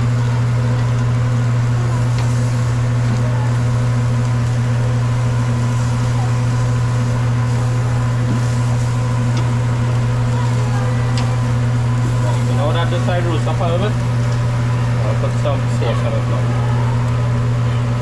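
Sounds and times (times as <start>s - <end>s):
loud low machine hum: 0.0s - 18.0s.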